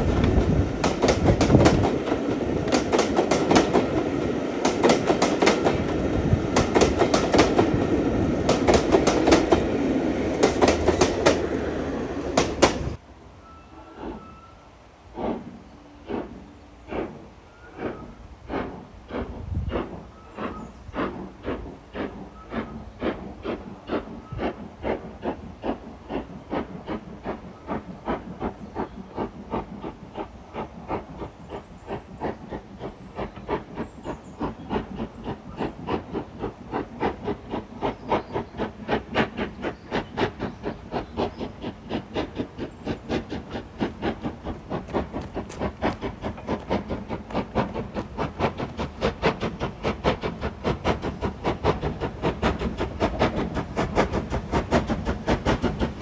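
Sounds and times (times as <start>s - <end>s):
steam locomotive chuffing: 0.0s - 13.0s, 15.0s - 56.0s.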